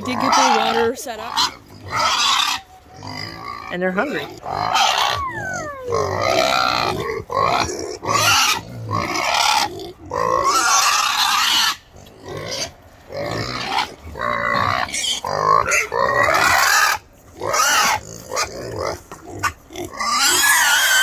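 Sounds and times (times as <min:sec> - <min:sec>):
piglets squealing and grunting: 0:00.0 - 0:21.0.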